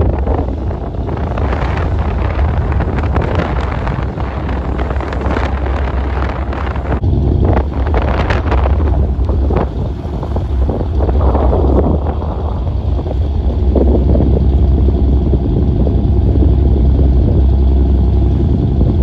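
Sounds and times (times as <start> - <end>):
boat motor rumble: 0.0 - 19.0
wind buffeting microphone: 0.0 - 19.0.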